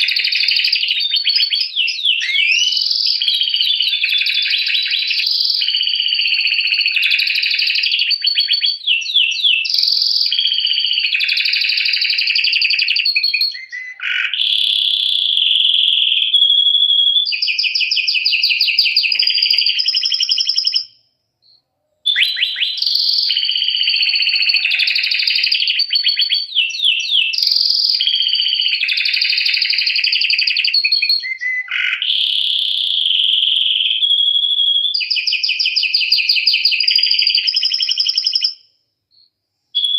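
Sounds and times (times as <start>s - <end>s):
canary singing trills and warbles: 0.0s - 38.6s.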